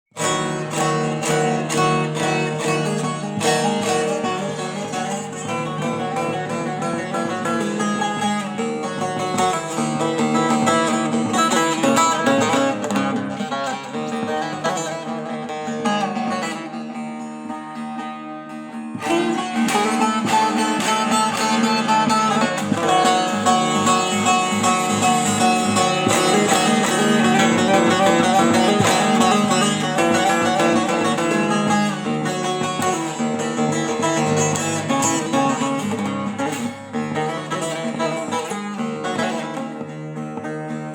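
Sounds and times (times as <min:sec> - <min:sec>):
long-necked lute plucked melody: 0:00.1 - 0:40.9.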